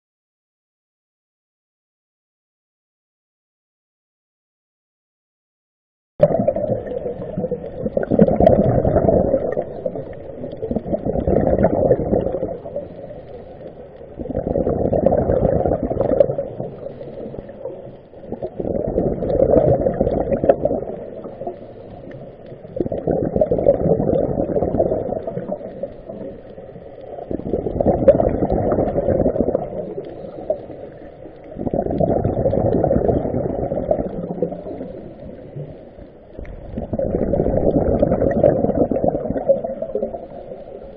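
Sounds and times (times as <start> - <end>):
exhaled bubbles underwater: 6.2 - 40.9.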